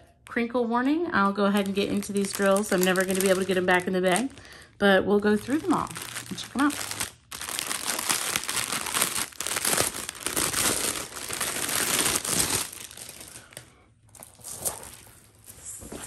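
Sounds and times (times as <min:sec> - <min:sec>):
plastic bags crinkling: 0:01.4 - 0:15.7.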